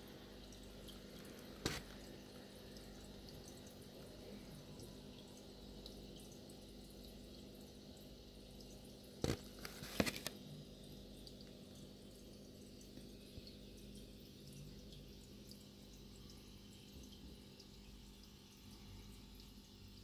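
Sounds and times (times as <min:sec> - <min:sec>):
aquarium water trickling: 0:00.0 - 0:20.0.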